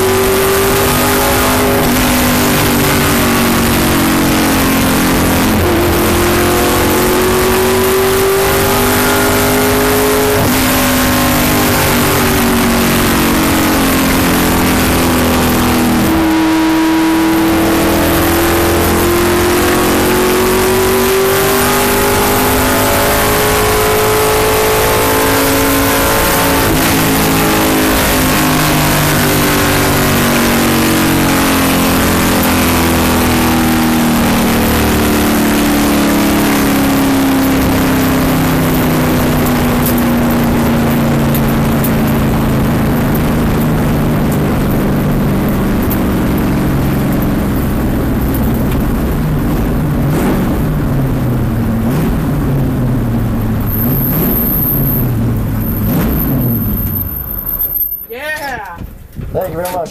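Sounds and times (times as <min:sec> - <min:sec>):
race car engine at speed: 0:00.0 - 0:58.1
wind and road roar: 0:00.0 - 0:59.9.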